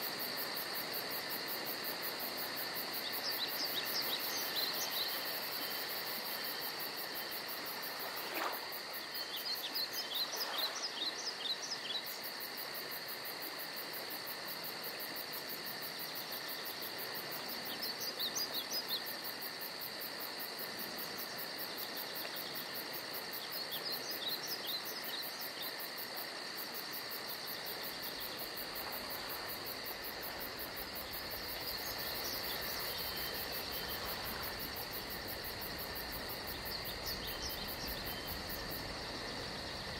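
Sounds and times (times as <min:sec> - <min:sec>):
insect chorus trilling and whining: 0:00.0 - 0:39.9.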